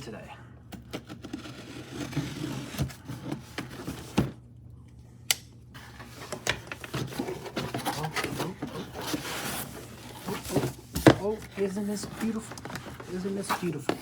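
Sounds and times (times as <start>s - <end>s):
cardboard packaging rustling: 0.8s - 4.4s, 5.8s - 14.0s.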